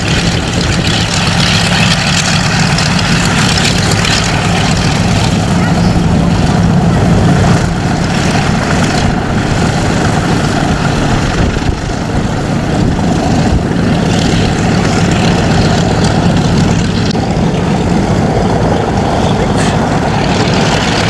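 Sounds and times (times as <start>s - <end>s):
propeller aircraft engine running: 0.0s - 21.0s.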